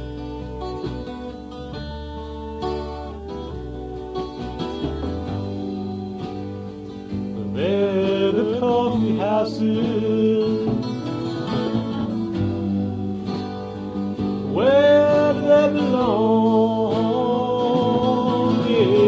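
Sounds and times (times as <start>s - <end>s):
folk-rock instrumental music: 0.0s - 19.0s.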